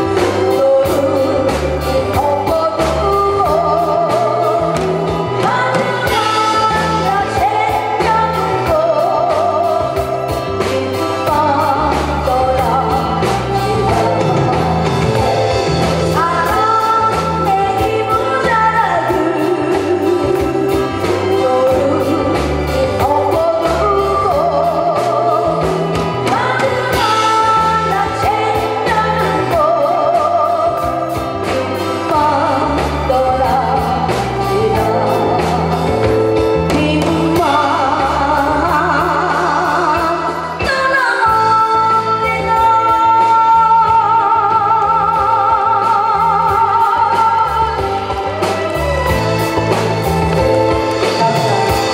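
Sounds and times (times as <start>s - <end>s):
beat and bass line: 0.0s - 42.9s, 43.5s - 51.9s
woman singing into microphone: 0.0s - 49.2s.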